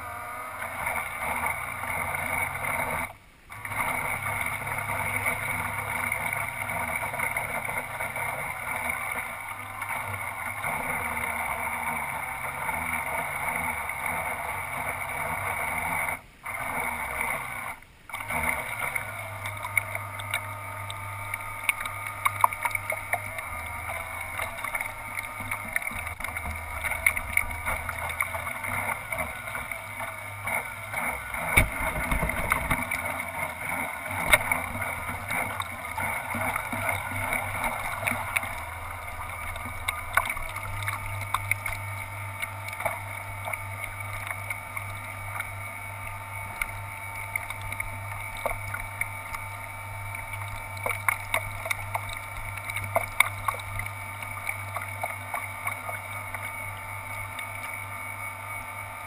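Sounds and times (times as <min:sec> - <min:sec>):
model boat motors humming: 0:00.0 - 0:59.0
waves splashing against hull: 0:00.6 - 0:59.0.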